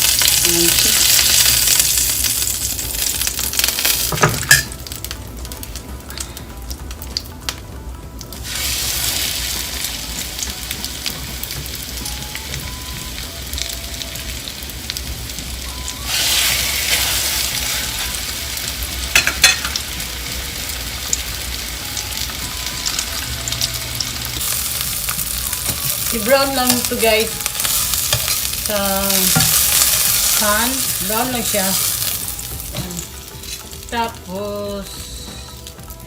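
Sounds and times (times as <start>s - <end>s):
chicken sizzling in hot oil: 0.0s - 7.6s, 8.2s - 36.0s.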